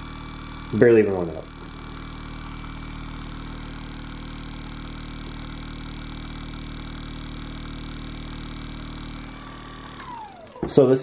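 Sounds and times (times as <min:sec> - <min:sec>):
massage gun hum: 0:00.0 - 0:11.0.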